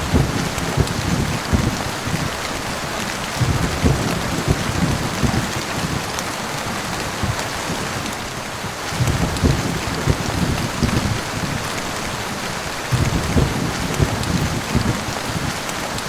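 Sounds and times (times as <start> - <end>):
heavy rain: 0.0 - 16.0
rumbling thunder: 0.0 - 16.0.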